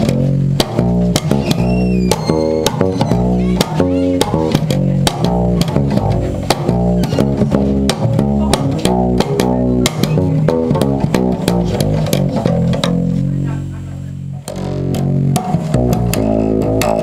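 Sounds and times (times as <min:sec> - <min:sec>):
finger clicking on string: 0:00.0 - 0:13.2, 0:14.5 - 0:17.0
plucked stringed instrument bass notes: 0:00.0 - 0:17.0.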